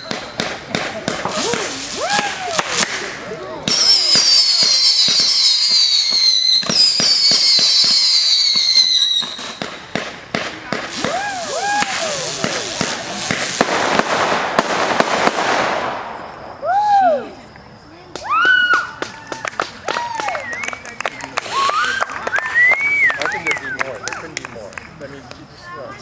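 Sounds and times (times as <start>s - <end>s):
firework whistles falling in pitch: 0.0s - 17.5s, 18.2s - 24.3s
firework bangs: 0.0s - 24.9s
firework crackling pops: 0.0s - 25.4s.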